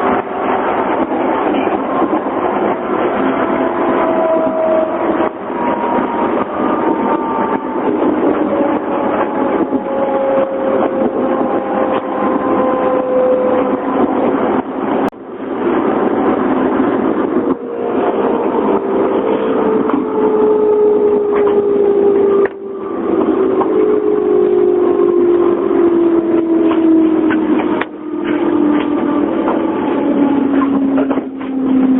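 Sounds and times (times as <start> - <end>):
electric train motors whining: 0.0 - 31.9.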